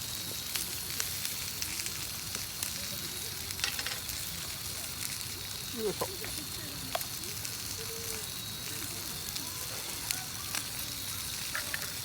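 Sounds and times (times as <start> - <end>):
campfire burning with hiss: 0.0 - 12.0
fire crackling pops: 0.0 - 12.0.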